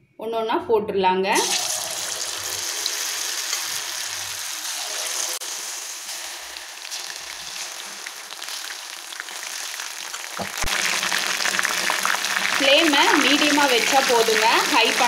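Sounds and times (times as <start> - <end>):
deep-frying sizzle with crackles: 1.5 - 15.0.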